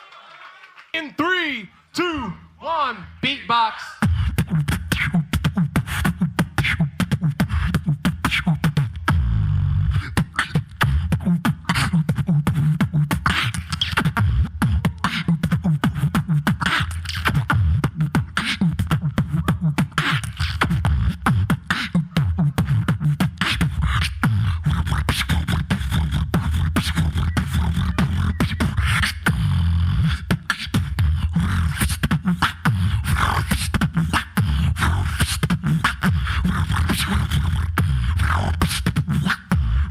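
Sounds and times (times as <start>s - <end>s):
beatboxing percussive clicks: 4.0s - 39.9s
deep bass line: 4.0s - 39.9s.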